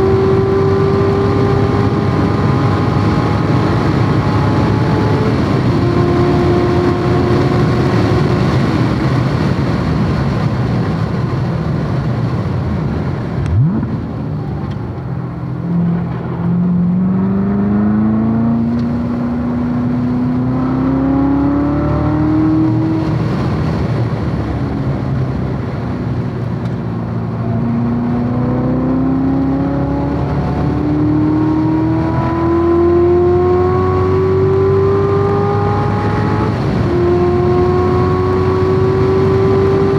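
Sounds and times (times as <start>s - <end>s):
car engine at speed: 0.0s - 39.9s
wind and tyre noise: 0.0s - 39.9s.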